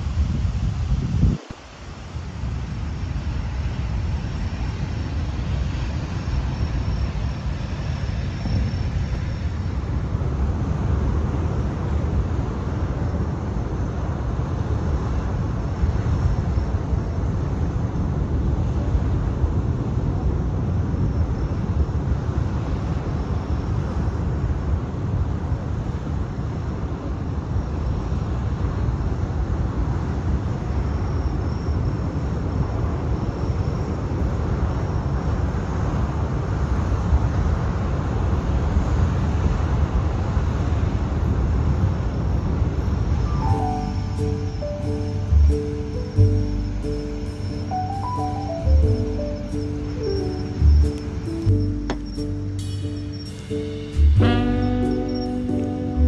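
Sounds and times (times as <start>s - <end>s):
wind buffeting microphone: 0.0s - 52.2s.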